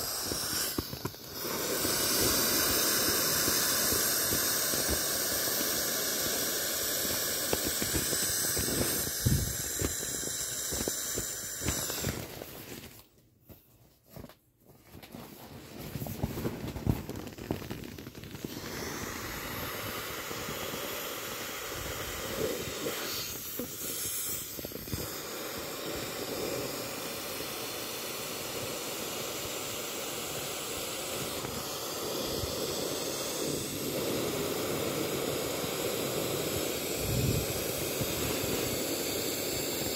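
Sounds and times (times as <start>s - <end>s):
air hissing from valve: 0.0s - 12.7s, 17.9s - 39.9s.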